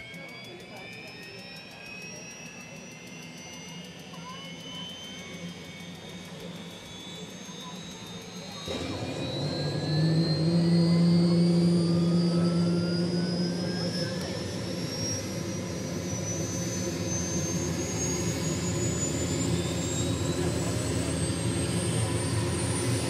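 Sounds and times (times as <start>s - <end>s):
deep helicopter rotor drone: 0.0s - 23.0s
turbine engine whine rising: 0.0s - 23.0s.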